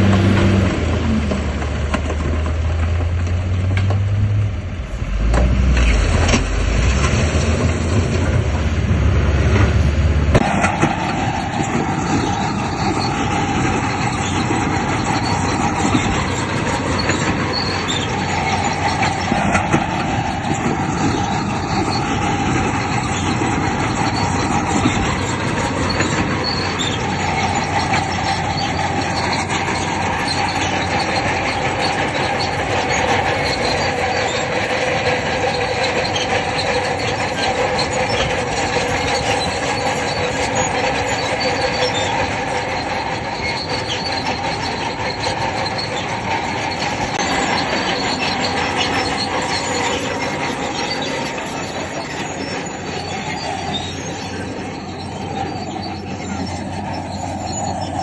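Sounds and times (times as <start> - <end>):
diesel engine running: 0.0 - 58.0
steel tracks clanking and squealing: 0.0 - 58.0.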